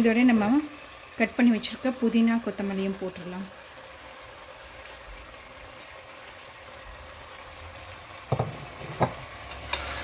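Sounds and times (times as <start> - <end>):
food sizzling in a pressure cooker: 0.0 - 10.0.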